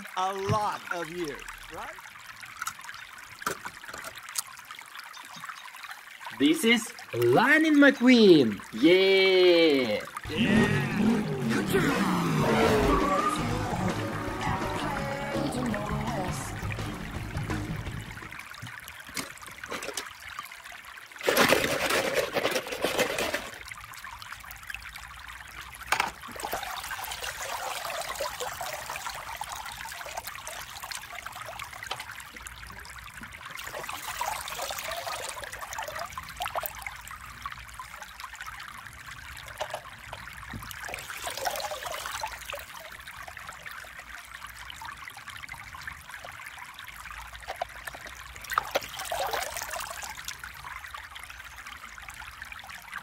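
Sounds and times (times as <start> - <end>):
water sloshing and trickling: 0.0 - 10.3, 11.1 - 53.0
water splashing: 0.0 - 53.0.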